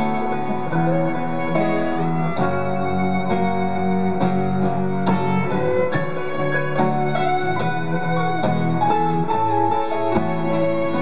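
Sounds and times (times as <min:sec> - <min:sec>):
acoustic guitars strumming: 0:00.0 - 0:11.0
cello bowing: 0:00.0 - 0:11.0
violin bowing: 0:00.0 - 0:11.0.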